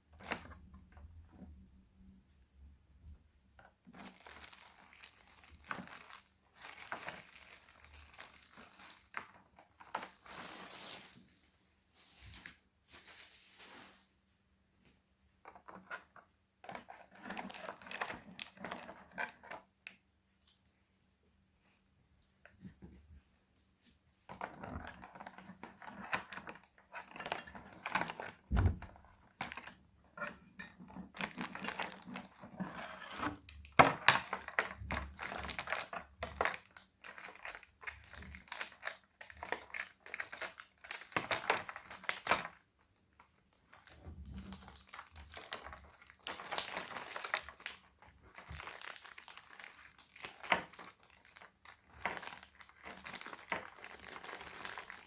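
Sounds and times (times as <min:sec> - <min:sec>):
packaging crinkling and rustling: 0:03.9 - 0:14.3, 0:15.5 - 0:19.7, 0:24.2 - 0:55.0.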